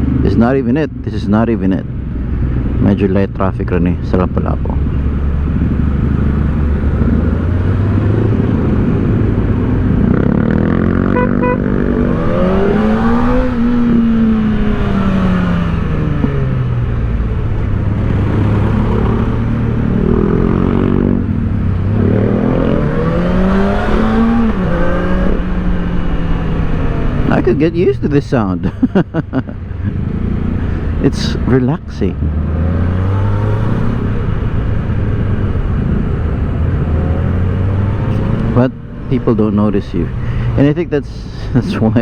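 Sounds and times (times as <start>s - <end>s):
motorcycle engine revving: 4.8s - 28.2s, 29.4s - 40.7s.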